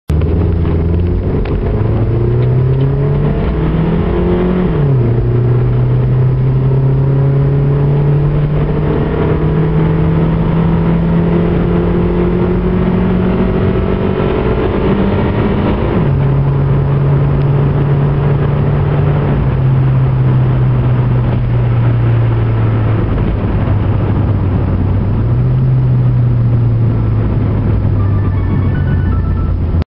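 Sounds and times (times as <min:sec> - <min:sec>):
car engine accelerating: 0:00.1 - 0:29.8.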